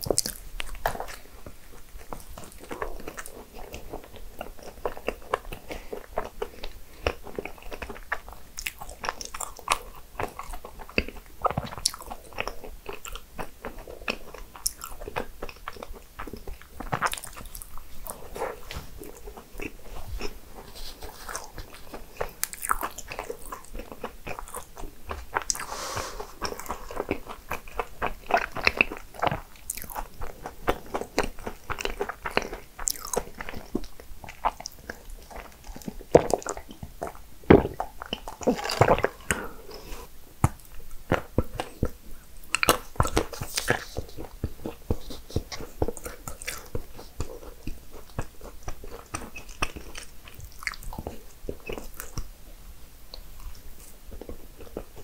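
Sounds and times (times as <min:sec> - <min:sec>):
person biting and chewing: 0:00.0 - 0:41.9, 0:42.5 - 0:52.3.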